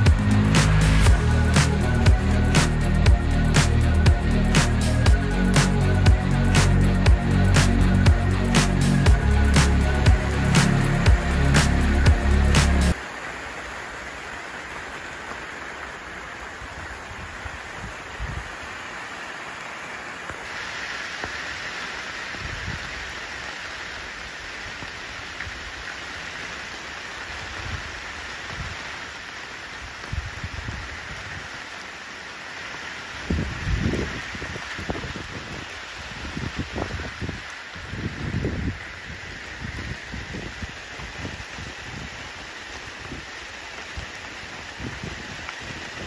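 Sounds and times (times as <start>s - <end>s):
rain on wet pavement: 0.0s - 46.0s.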